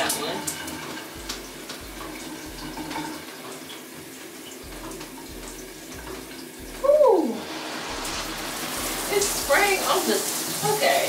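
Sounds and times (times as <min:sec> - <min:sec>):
shower water running: 0:00.0 - 0:11.0.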